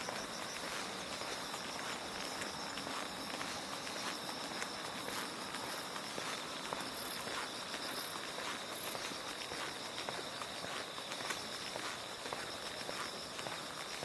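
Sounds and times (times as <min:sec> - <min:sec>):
faint shoe footsteps: 0:00.0 - 0:14.0
insect chirping: 0:00.0 - 0:14.0
insects trilling: 0:00.0 - 0:14.0.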